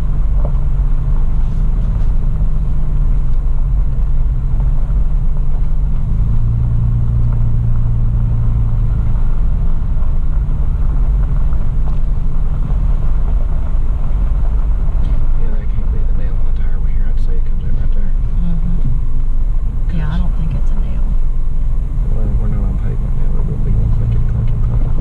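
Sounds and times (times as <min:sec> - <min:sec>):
car engine and tyres droning: 0:00.0 - 0:25.0.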